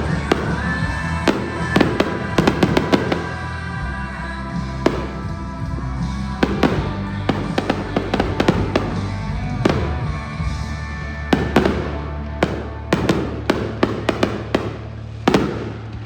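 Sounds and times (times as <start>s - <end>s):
fireworks bangs and crackles: 0.0s - 16.0s
music with chords and bass: 0.0s - 16.0s.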